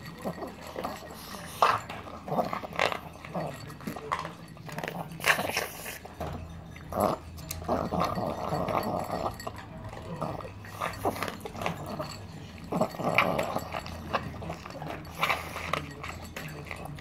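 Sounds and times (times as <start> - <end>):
dog crunching dry kibble: 0.0 - 17.0
kibble clicking against bowl: 0.0 - 17.0.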